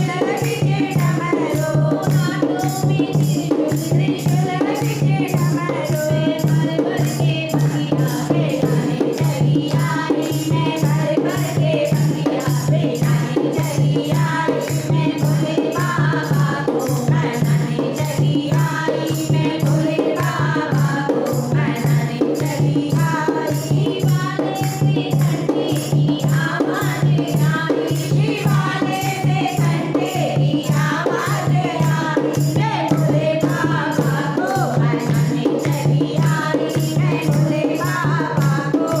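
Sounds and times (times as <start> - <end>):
group singing devotional song: 0.0 - 39.0
shaken rattle percussion: 0.0 - 39.0.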